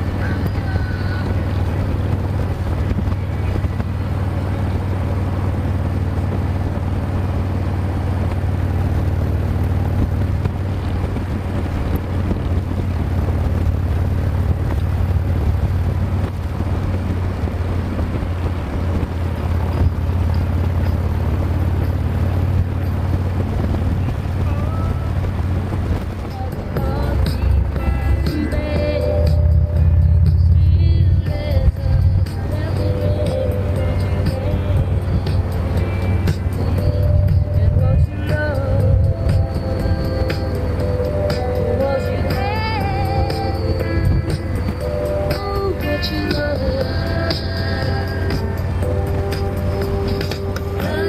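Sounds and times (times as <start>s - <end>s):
motorcycle engine cruising: 0.0s - 51.0s.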